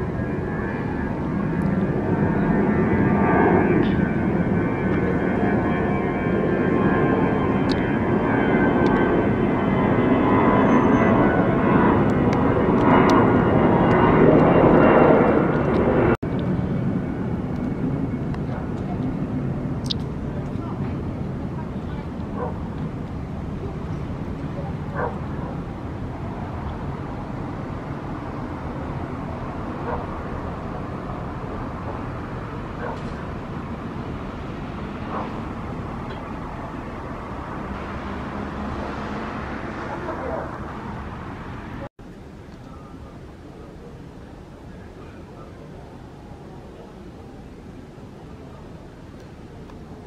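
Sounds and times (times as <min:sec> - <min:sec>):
airplane engine drone: 0:00.0 - 0:50.0
distant city traffic hum: 0:00.0 - 0:50.0.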